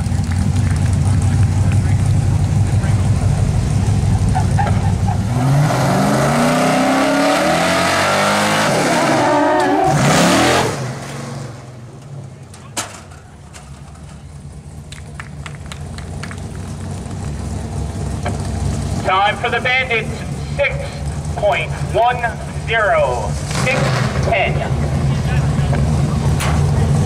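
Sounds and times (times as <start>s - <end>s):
pickup truck engine revving: 0.0s - 27.0s.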